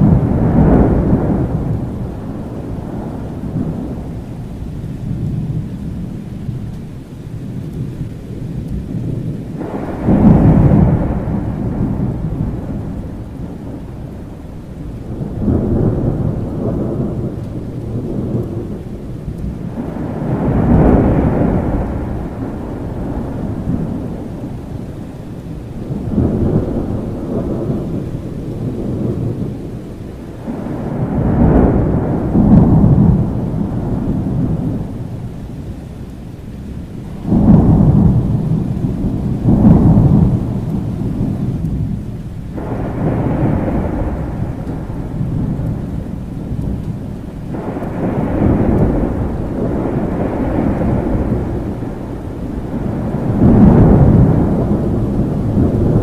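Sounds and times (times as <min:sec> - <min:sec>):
rolling thunder: 0:00.0 - 0:56.0
steady rain: 0:00.0 - 0:56.0.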